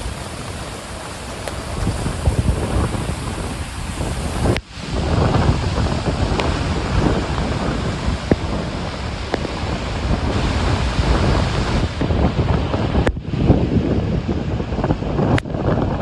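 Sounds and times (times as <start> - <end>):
heavy surf breaking: 0.0 - 16.0
wind buffeting microphone: 0.0 - 16.0.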